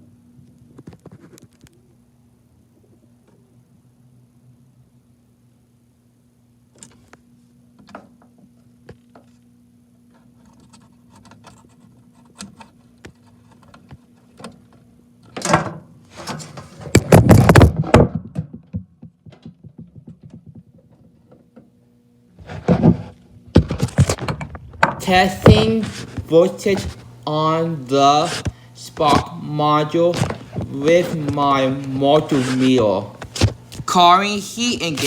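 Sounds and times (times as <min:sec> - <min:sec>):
faint electrical hum: 0:00.0 - 0:35.0.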